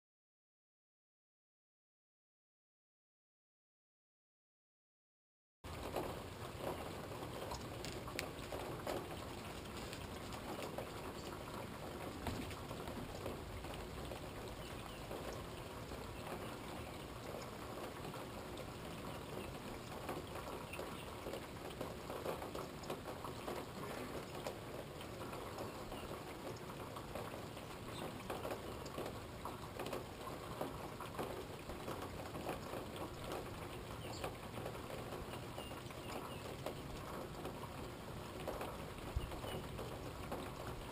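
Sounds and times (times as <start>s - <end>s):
steady rain falling: 5.6s - 40.9s.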